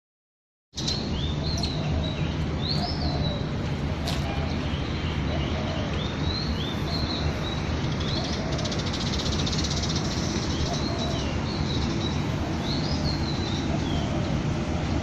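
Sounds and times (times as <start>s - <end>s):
birds chirping: 0.8s - 15.0s.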